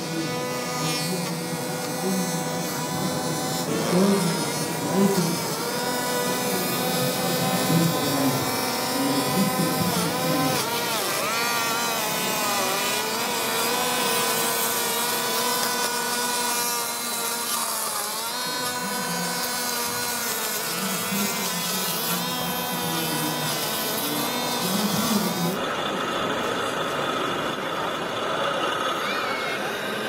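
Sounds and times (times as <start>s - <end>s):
electric toy motors whining: 0.0s - 30.0s.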